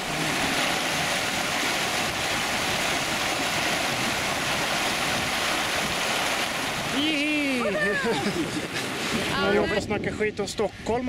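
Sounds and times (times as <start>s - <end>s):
stream rushing over rocks: 0.0s - 9.9s.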